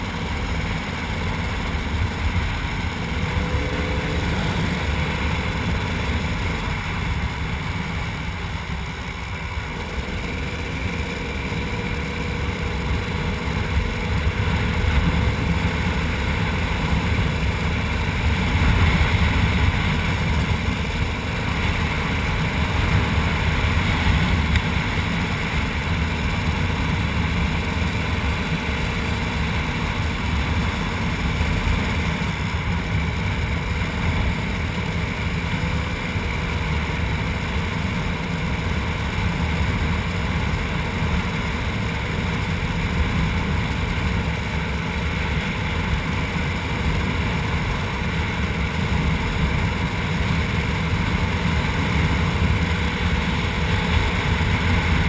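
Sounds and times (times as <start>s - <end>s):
two-stroke motorcycle engine running: 0.0s - 55.0s.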